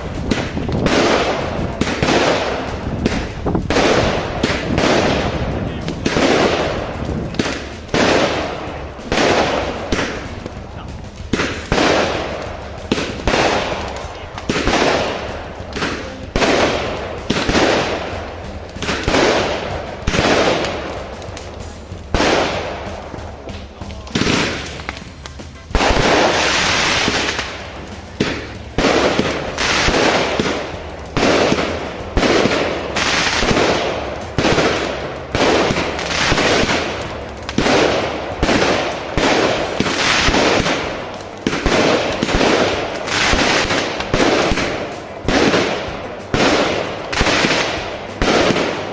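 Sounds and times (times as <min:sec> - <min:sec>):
firework bangs: 0:00.0 - 0:48.9
firework crackling: 0:00.0 - 0:48.9.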